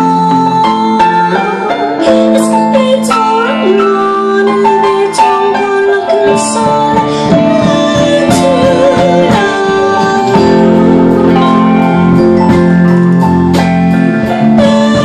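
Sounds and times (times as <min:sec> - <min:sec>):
woman singing: 0:00.0 - 0:12.8, 0:14.2 - 0:15.0
live band music: 0:00.0 - 0:15.0.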